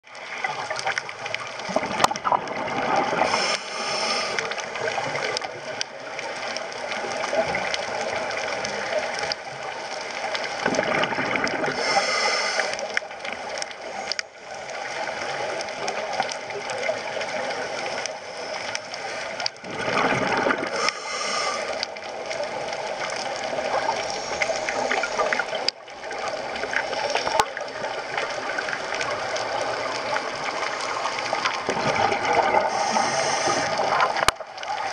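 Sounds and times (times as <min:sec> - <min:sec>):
underwater bubbling and hiss: 0:00.0 - 0:34.9.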